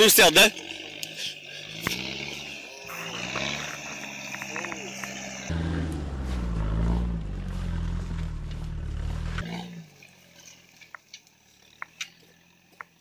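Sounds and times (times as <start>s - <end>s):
engine revving hard: 0.0s - 10.8s.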